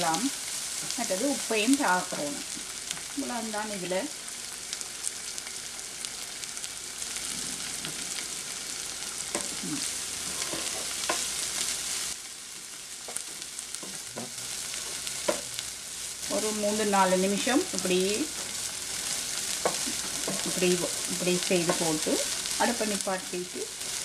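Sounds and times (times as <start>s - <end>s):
food sizzling in a frying pan: 0.0s - 24.0s.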